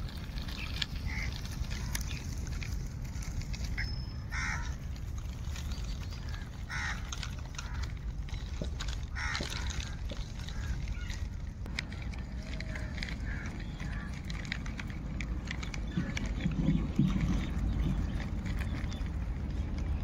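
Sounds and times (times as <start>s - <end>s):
steady low rumble: 0.0s - 20.0s
bird calling: 0.4s - 20.0s.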